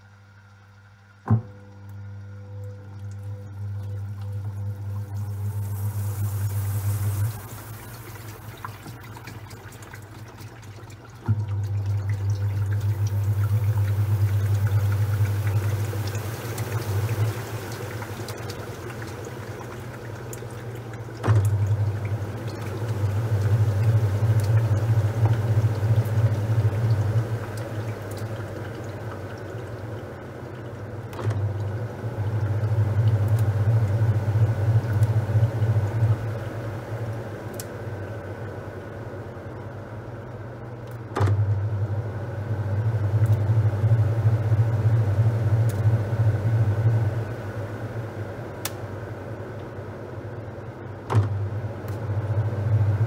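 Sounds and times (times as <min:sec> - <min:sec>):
washing machine motor hum: 0:00.0 - 0:53.0
water sloshing in drum: 0:01.1 - 0:49.2.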